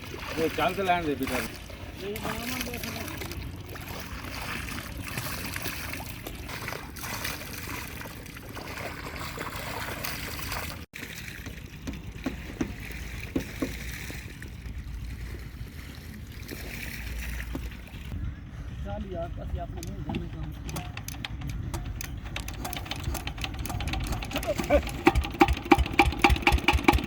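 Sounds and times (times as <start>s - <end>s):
low steady rumble: 0.0s - 27.0s
water splashing and flowing: 0.0s - 27.0s.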